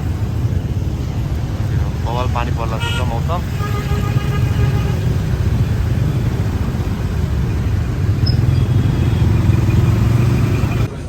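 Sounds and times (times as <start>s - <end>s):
vehicle rumbling in traffic: 0.0s - 11.0s.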